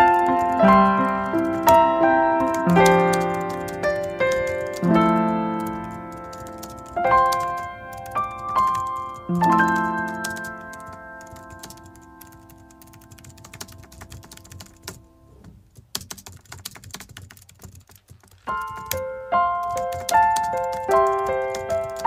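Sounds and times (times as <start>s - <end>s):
computer keyboard typing: 0.0s - 15.1s, 15.7s - 22.0s.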